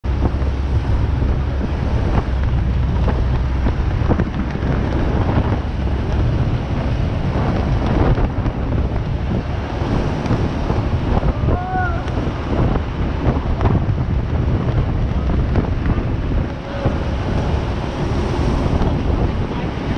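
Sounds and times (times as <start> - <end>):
vehicle low rumble: 0.0 - 19.9
wind buffeting microphone: 0.0 - 19.9.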